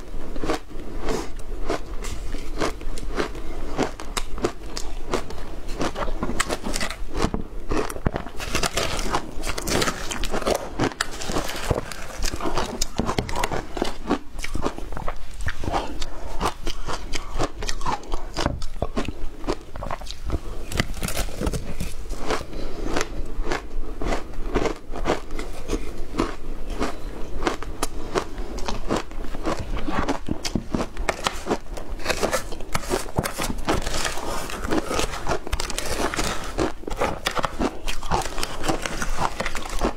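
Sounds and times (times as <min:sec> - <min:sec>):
shaved ice crunching being chewed: 0:00.0 - 0:39.9.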